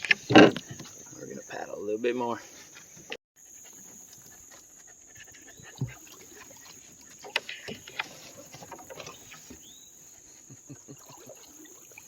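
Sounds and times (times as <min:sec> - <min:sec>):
paddle strokes in water: 0:00.0 - 0:01.6, 0:02.4 - 0:12.0
high insect drone: 0:00.0 - 0:12.0.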